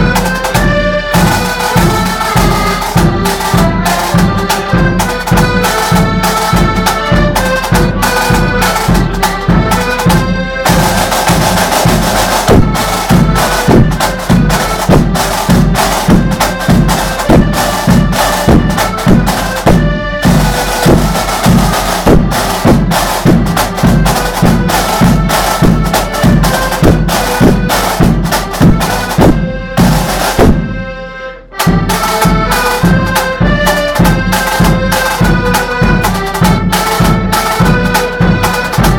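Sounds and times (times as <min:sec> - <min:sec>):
accordions playing a march: 0:00.0 - 0:38.9
steady drum beat: 0:00.0 - 0:38.9.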